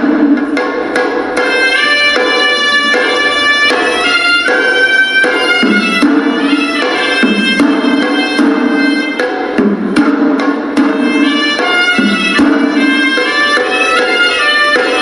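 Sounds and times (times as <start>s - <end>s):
drum strokes: 0.0s - 15.0s
reedy shawm melody: 0.0s - 15.0s.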